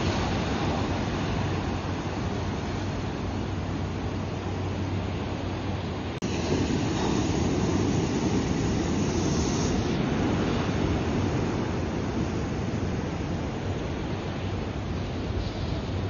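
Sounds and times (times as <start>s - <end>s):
waves breaking on rocky shore: 0.0s - 16.0s.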